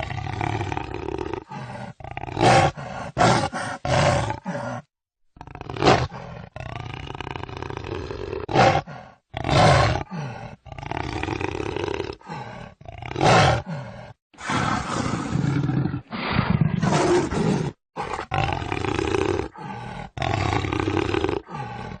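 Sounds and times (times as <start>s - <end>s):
jaguar roaring and growling: 0.0s - 22.0s.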